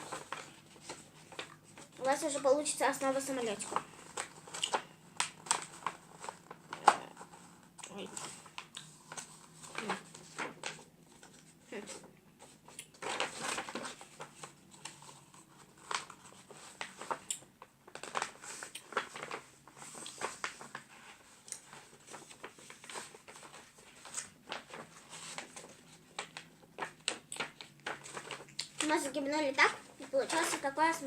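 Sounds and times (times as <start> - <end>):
paper rustling and crinkling: 0.0 - 31.0.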